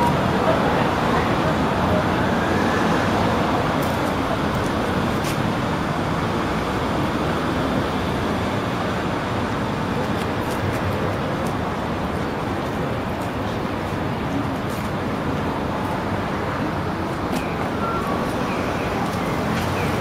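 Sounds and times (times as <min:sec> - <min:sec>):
road traffic hiss and rumble: 0:00.0 - 0:20.0.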